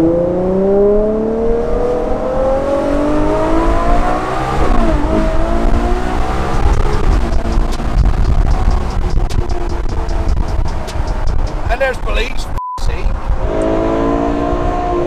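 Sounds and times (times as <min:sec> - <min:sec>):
car engine accelerating hard: 0:00.0 - 0:11.8, 0:13.2 - 0:15.0.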